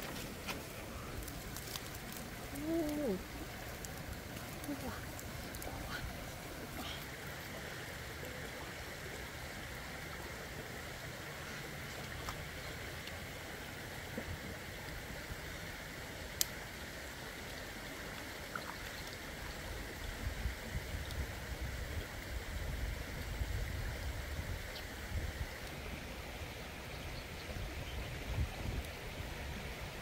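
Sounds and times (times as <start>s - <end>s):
river flowing over stones: 0.0s - 27.4s.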